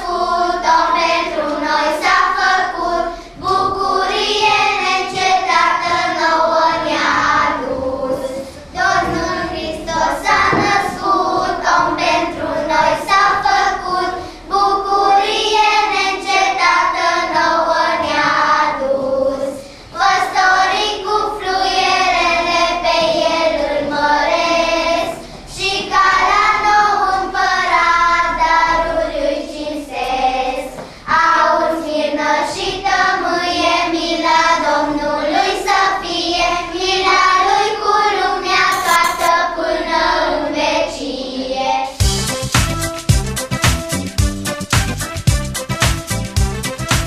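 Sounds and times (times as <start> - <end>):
children singing: 0.0 - 42.0.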